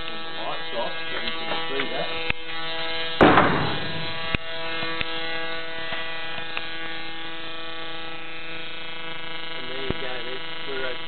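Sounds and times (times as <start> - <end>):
high-voltage electrical buzz: 0.0 - 11.0
sharp electric snaps: 0.0 - 11.0.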